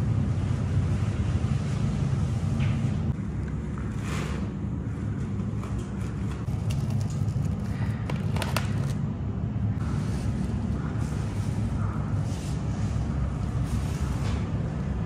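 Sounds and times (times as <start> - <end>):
bakery machinery drone: 0.0 - 15.0.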